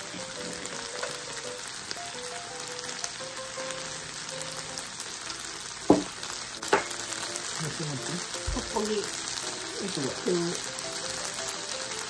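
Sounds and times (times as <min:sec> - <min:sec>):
food sizzling in a pan: 0:00.0 - 0:12.0
light background music: 0:00.0 - 0:12.0.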